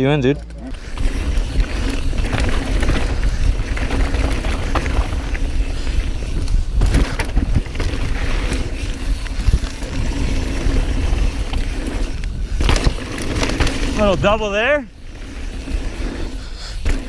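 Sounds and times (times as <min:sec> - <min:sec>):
bike rattling and clicking: 0:00.0 - 0:17.0
bike tyres rumbling on dirt: 0:00.6 - 0:17.0.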